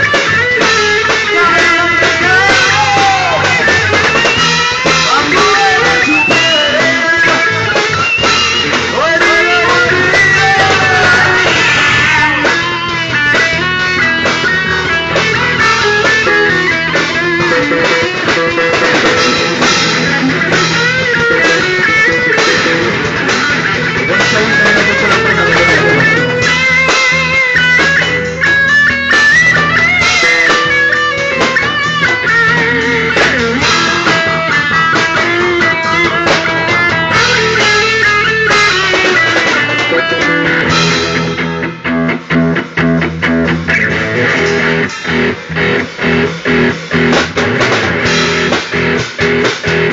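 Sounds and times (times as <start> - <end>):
electric guitar with pitch bends: 0.0 - 49.9
rock band playing: 0.0 - 49.9.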